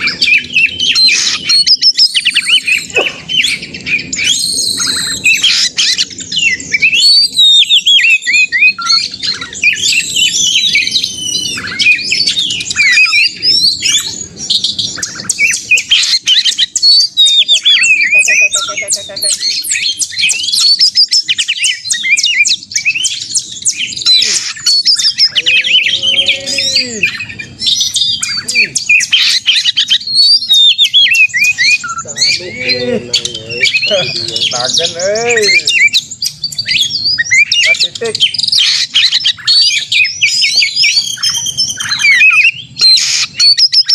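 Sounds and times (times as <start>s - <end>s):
magpie-robin singing: 0.0s - 43.9s.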